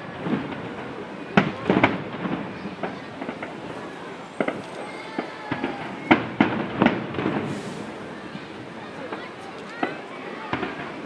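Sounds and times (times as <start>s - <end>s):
small firework pops: 0.0s - 11.0s.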